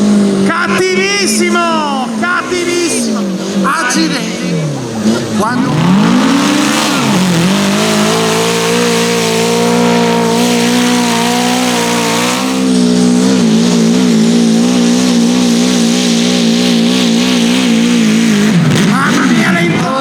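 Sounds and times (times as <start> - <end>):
tractor engine running at high revs: 0.0 - 20.0.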